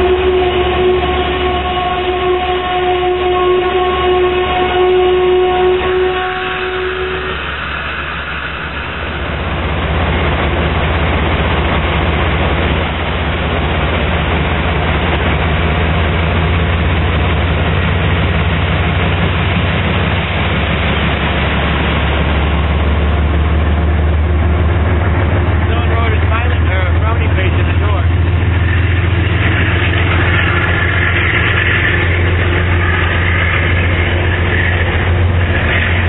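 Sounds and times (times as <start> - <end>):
diesel train engine idling: 0.0 - 36.0
drawn-out train tone: 0.0 - 36.0.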